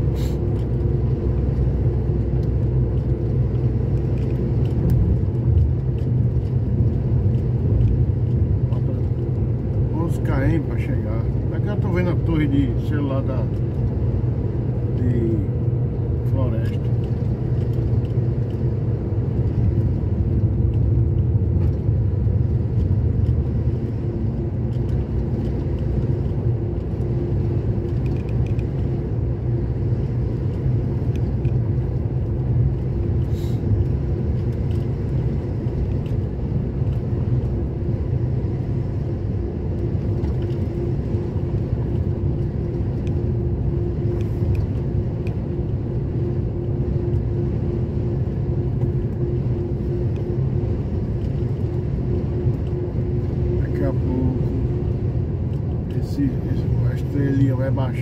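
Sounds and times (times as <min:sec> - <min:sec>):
vehicle road noise from inside cab: 0:00.0 - 0:58.0.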